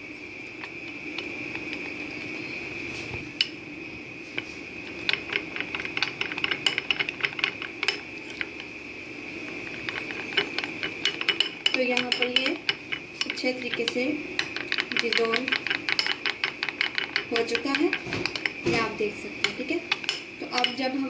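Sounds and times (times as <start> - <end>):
steady background whine: 0.0 - 21.0.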